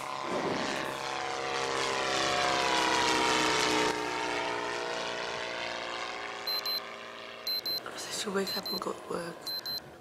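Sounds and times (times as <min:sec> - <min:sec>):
propeller aircraft engine running: 0:00.0 - 0:10.0.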